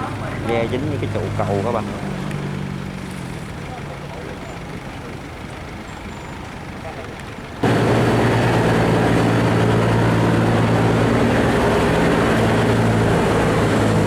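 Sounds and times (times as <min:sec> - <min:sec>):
boat engine running: 0:00.0 - 0:06.8, 0:07.4 - 0:14.0.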